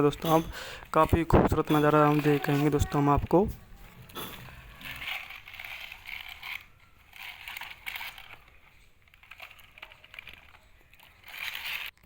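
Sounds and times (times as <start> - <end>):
toy excavator scraping dry soil: 0.0 - 12.0.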